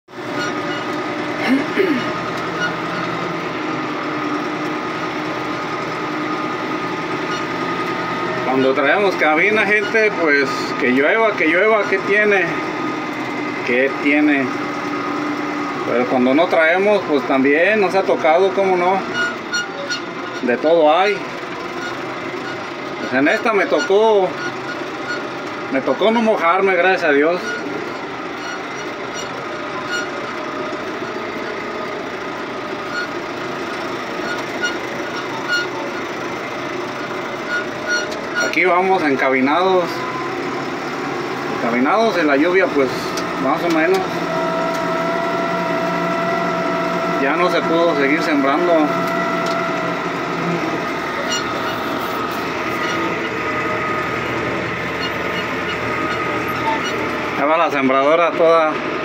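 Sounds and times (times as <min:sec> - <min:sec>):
tractor diesel engine running: 0:00.0 - 0:59.0
steady whine: 0:00.1 - 0:59.0.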